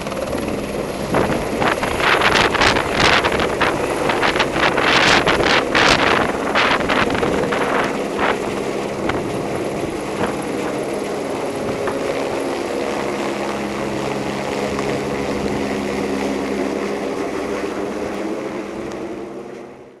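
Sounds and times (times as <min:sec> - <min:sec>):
rotor downwash buffeting microphone: 0:00.0 - 0:19.1
helicopter rotor and turbine drone: 0:00.0 - 0:20.0.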